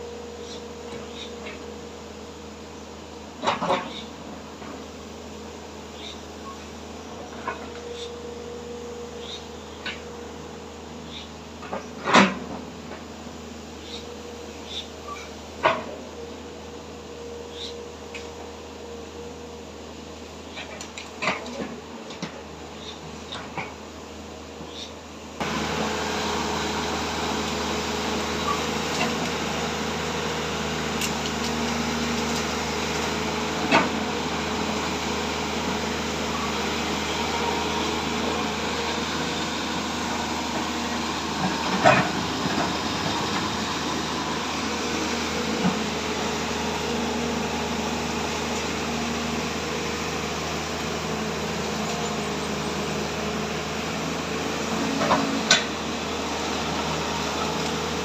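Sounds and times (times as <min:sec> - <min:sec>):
excavator engine humming: 0:00.0 - 0:58.0.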